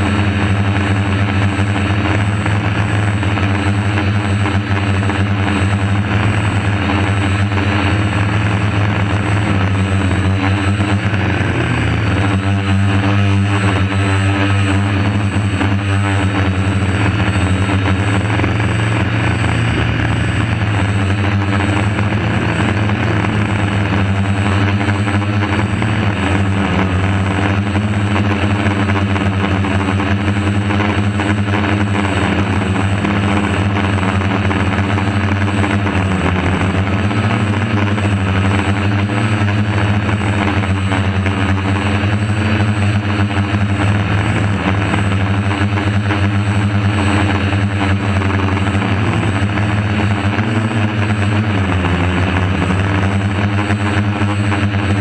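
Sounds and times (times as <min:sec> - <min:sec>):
drone rotors whirring: 0:00.0 - 0:55.0.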